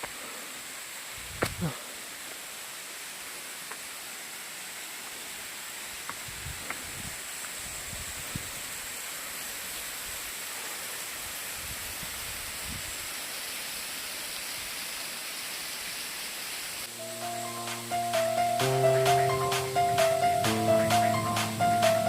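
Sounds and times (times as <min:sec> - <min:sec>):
waterfall hissing: 0:00.0 - 0:22.0.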